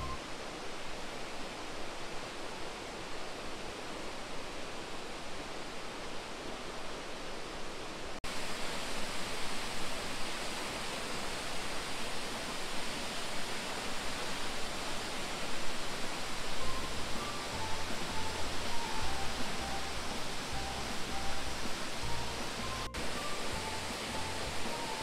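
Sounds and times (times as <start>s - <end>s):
waterfall rushing: 0.0s - 5.1s, 8.2s - 25.0s.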